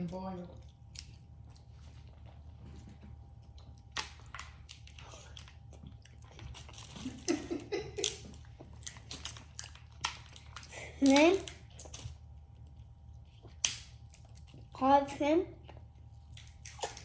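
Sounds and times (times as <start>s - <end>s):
chewing with crunches: 0.0s - 14.8s, 15.5s - 17.0s.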